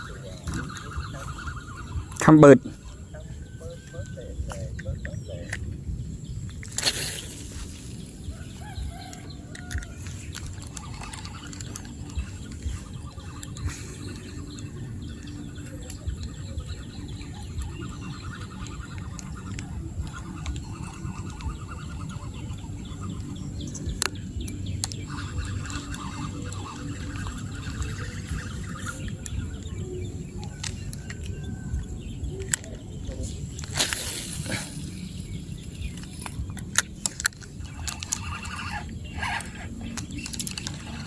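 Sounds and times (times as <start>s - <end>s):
faint bird calls: 0.0s - 41.0s
steady low rumble: 0.0s - 41.0s.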